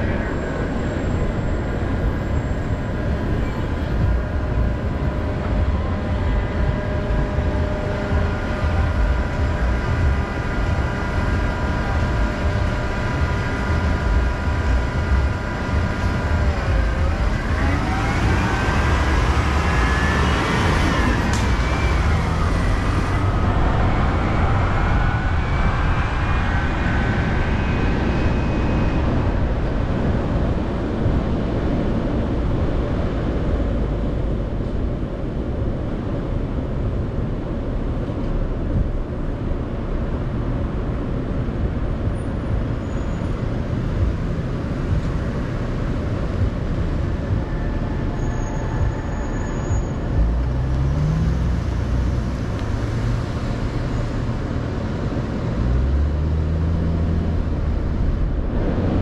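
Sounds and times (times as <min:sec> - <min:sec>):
bus engine whine: 0:00.0 - 0:59.0
street traffic rumble: 0:00.0 - 0:59.0.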